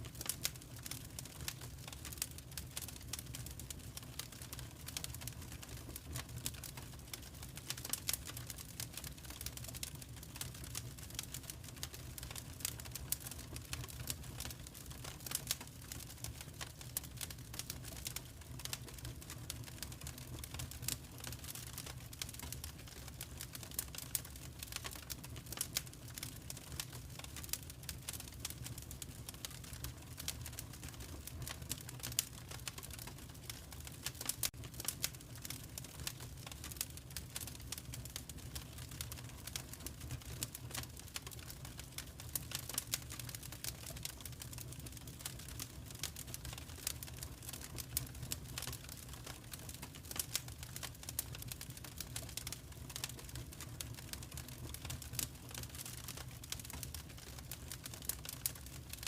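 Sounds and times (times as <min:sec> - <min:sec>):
low rumble of flames: 0:00.0 - 0:58.7
wood fire crackling: 0:00.0 - 0:59.0.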